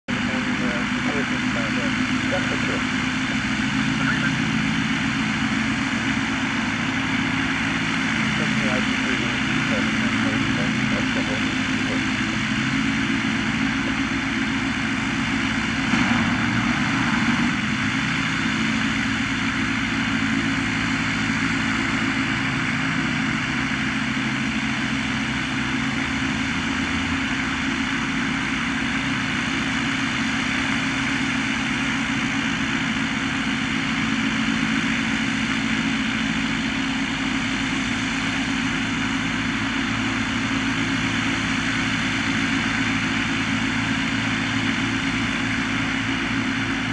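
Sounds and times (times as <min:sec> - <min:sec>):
light aircraft engine and propeller: 0:00.0 - 0:46.9.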